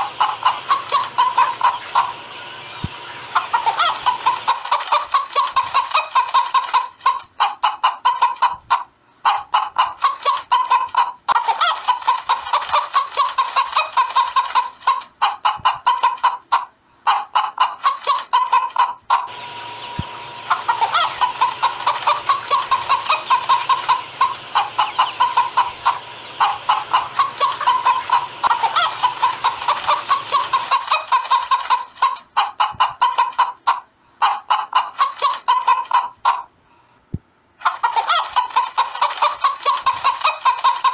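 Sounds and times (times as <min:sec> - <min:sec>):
hens clucking and cackling: 0:00.0 - 0:36.6, 0:37.6 - 0:40.9.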